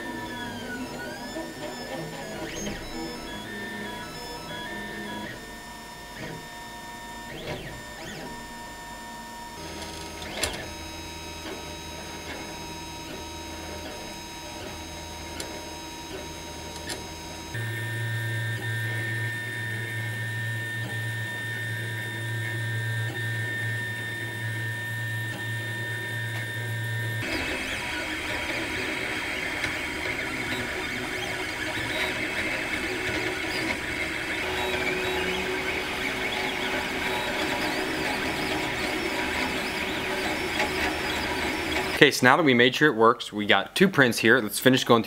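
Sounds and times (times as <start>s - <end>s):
stepper motors whining: 0.0s - 42.1s.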